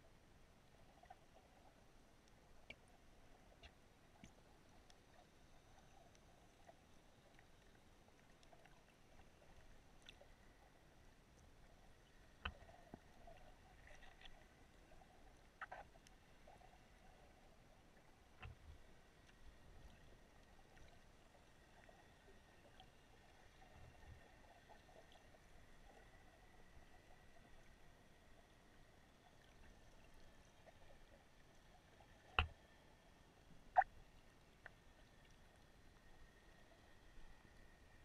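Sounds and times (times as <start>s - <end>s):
small clicks and crackles: 0.6s - 38.0s.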